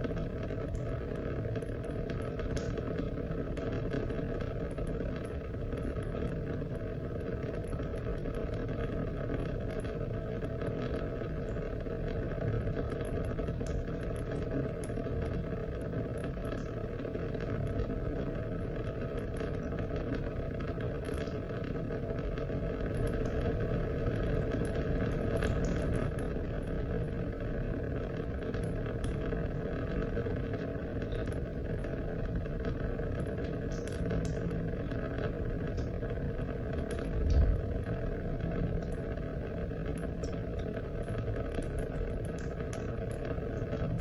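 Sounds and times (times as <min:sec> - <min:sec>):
sharp drip ticks: 0:00.0 - 0:44.0
steady rain: 0:00.0 - 0:44.0.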